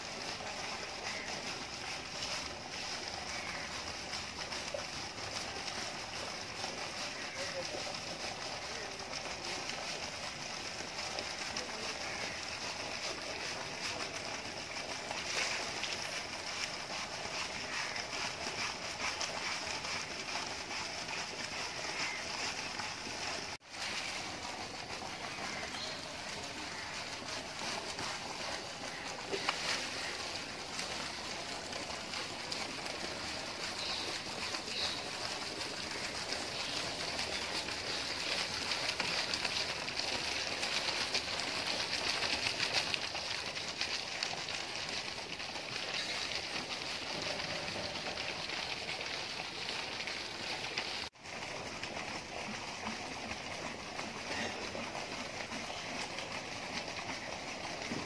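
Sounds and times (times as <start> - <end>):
shallow river water splashing: 0.0 - 57.2.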